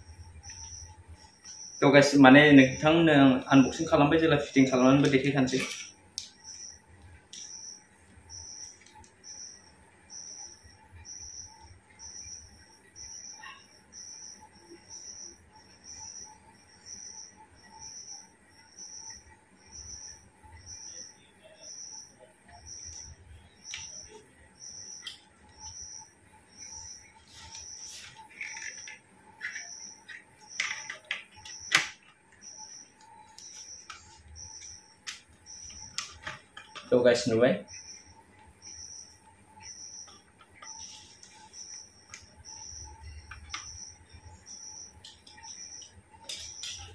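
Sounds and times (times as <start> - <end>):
cricket chirping: 0.0 - 46.9.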